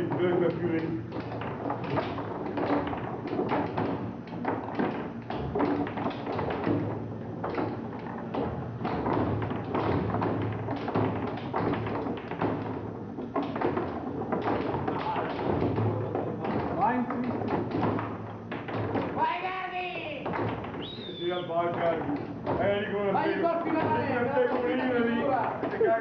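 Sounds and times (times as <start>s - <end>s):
foosball table clatter: 0.0s - 26.0s.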